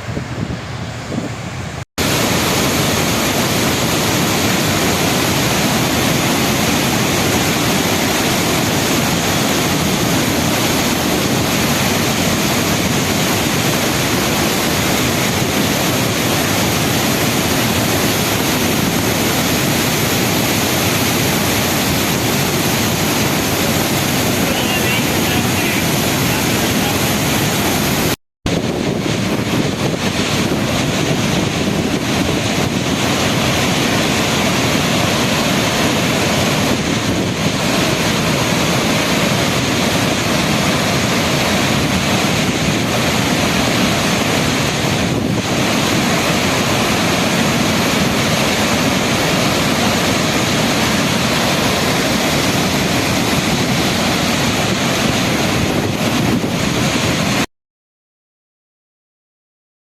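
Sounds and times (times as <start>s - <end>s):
water rushing from valve: 2.0s - 57.5s.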